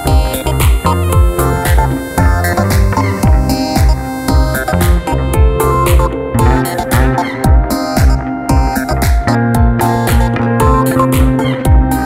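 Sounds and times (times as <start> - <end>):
deep kick drum: 0.0 - 12.0
electronic music: 0.0 - 12.0
held synth notes: 0.0 - 12.0.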